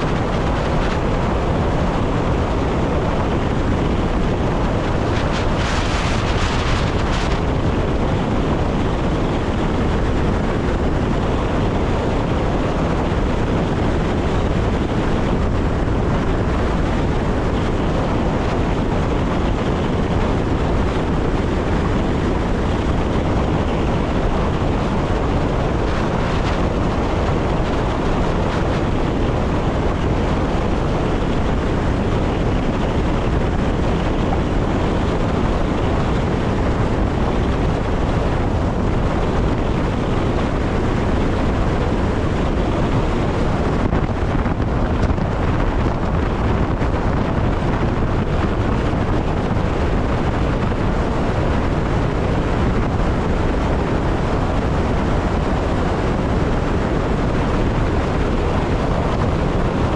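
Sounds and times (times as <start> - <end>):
train rumble: 0.0 - 59.9
wind noise: 0.0 - 59.9.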